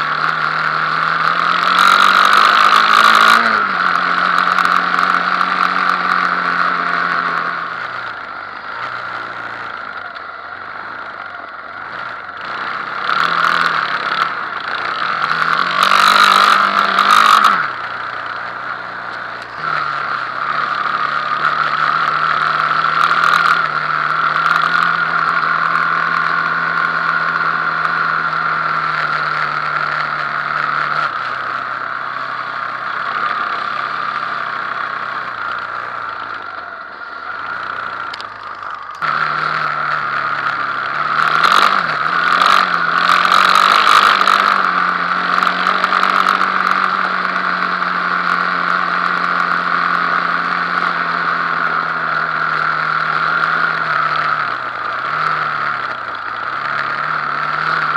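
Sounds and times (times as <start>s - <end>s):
quad bike engine idling: 0.0s - 57.9s
steady high whine: 0.0s - 57.9s.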